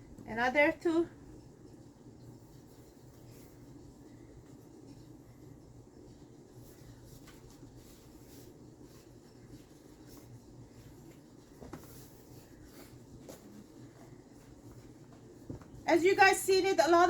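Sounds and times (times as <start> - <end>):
low room hum: 0.0 - 17.0
pastry sheets rustling: 0.0 - 17.0.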